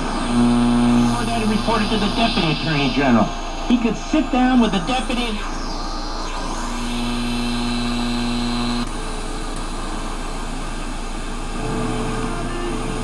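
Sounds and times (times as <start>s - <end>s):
low steady buzz: 0.0s - 12.9s
radio static hiss: 0.0s - 13.0s.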